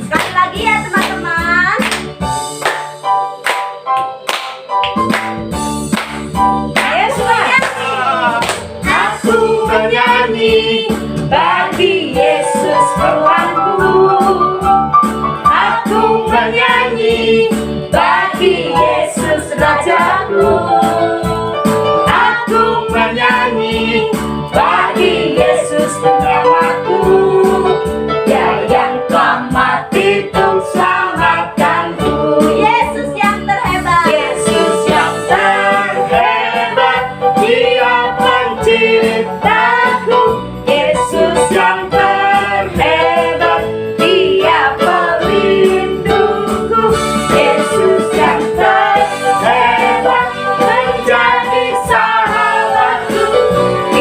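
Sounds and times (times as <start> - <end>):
instrumental accompaniment with beat: 0.0 - 54.0
worship song singing: 6.7 - 54.0.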